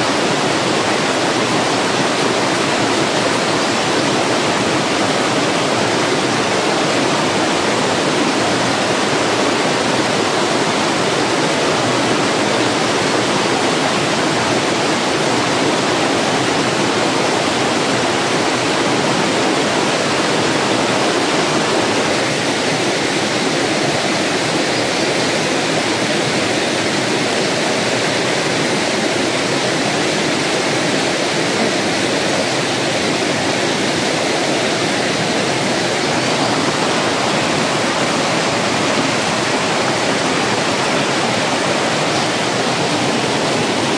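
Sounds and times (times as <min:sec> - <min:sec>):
stream water rushing over rocks: 0:00.0 - 0:43.9.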